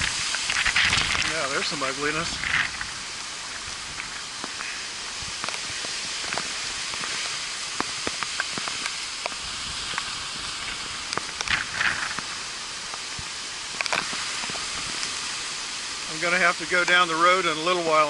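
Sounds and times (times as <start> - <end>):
driving rain: 0.0 - 18.0
hurricane wind: 0.0 - 18.0.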